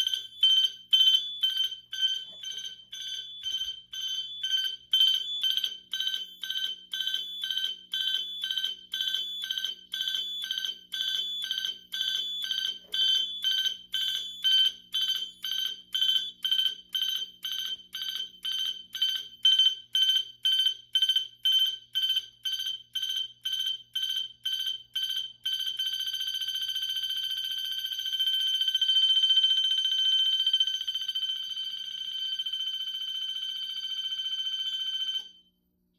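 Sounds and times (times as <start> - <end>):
fire alarm sounder pulsing: 0.0 - 35.6.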